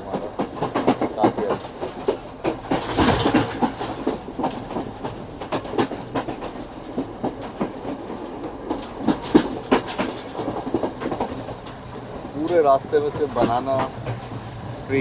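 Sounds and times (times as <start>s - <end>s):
train wheels clattering over rail joints: 0.0s - 15.0s.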